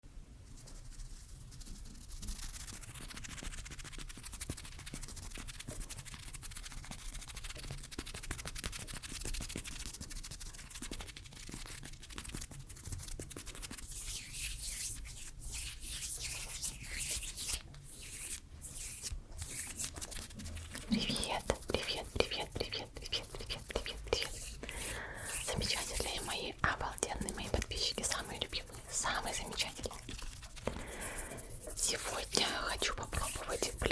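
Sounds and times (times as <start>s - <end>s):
hands rubbing: 0.7s - 33.9s.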